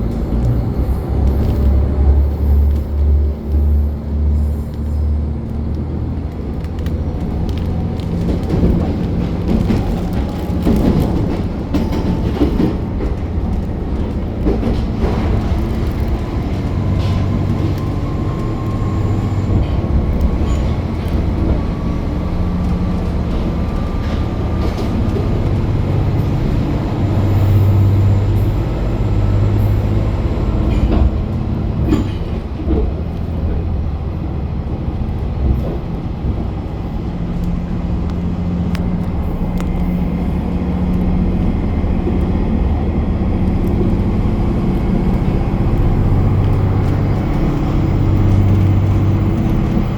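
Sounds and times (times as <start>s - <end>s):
train engine and wheels rumbling: 0.0s - 49.9s.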